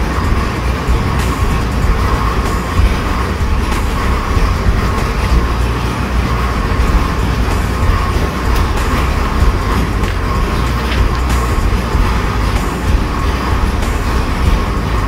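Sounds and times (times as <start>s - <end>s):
engine idling with low rumble: 0.0s - 15.0s.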